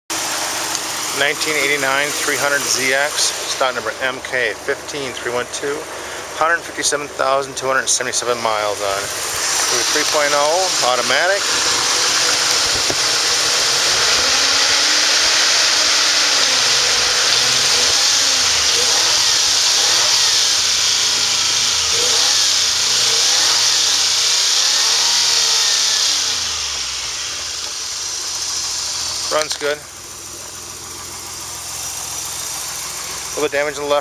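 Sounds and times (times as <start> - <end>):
car engine revving: 0.1 - 34.0.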